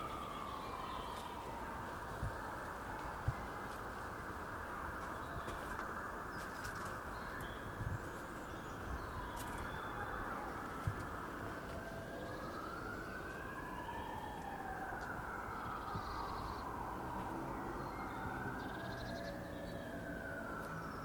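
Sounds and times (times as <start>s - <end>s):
emergency siren wailing: 0.0s - 21.0s.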